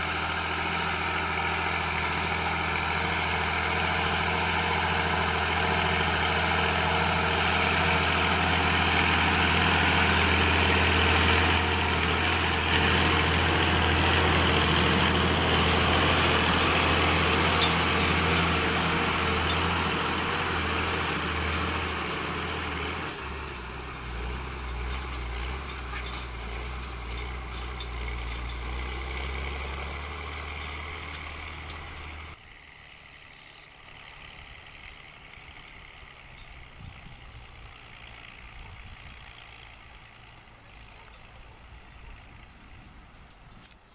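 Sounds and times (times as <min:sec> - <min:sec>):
tractor diesel engine under load: 0:00.0 - 0:43.9.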